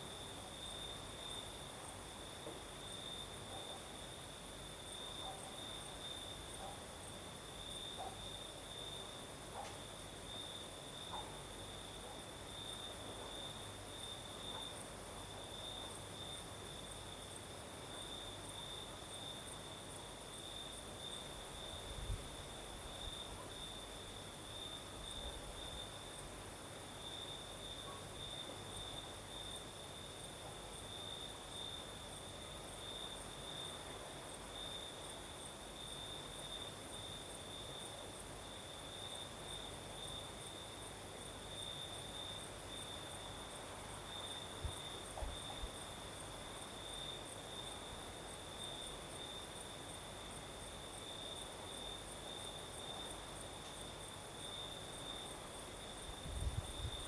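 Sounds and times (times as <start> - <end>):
soft breeze: 0.0 - 30.2, 38.2 - 57.0
crickets chirping: 0.0 - 57.0.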